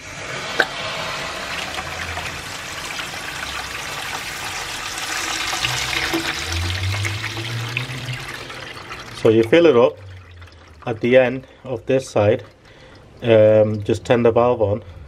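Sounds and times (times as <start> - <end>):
water gushing into plastic bucket: 0.6 - 14.0.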